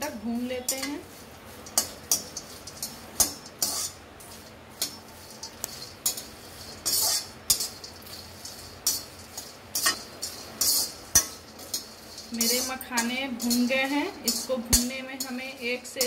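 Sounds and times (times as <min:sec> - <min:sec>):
spatula scraping an iron pan: 0:00.4 - 0:16.0.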